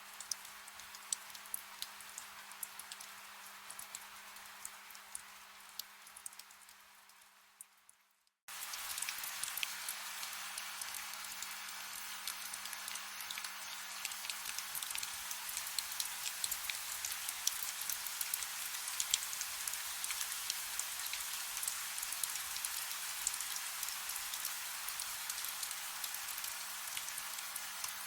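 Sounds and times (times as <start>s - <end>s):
soft rain: 0.0s - 28.0s.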